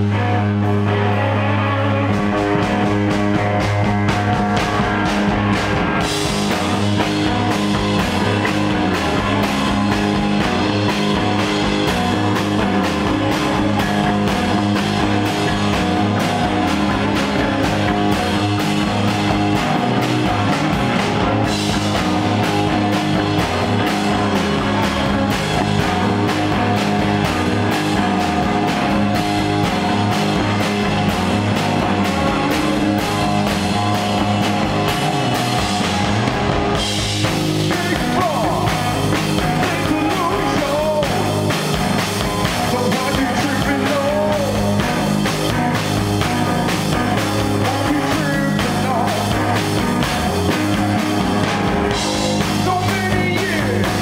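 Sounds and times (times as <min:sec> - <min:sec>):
bass guitar: 0:00.0 - 0:54.0
electric guitars: 0:00.0 - 0:54.0
drum kit with cymbal strokes: 0:02.0 - 0:54.0.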